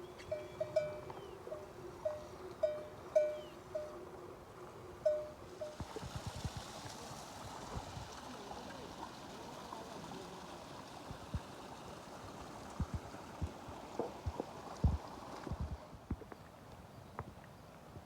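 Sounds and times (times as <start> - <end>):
running water or rain: 1.8 - 18.0.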